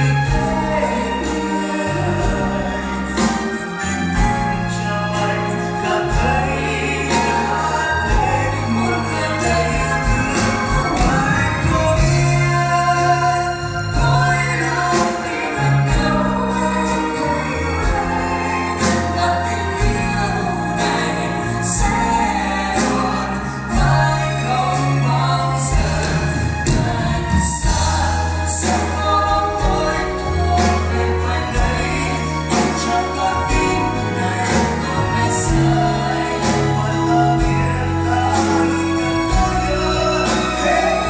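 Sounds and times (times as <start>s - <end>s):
band playing pop song: 0.0s - 41.0s
drum kit with cymbal hits: 0.0s - 41.0s
held bass notes: 0.0s - 41.0s.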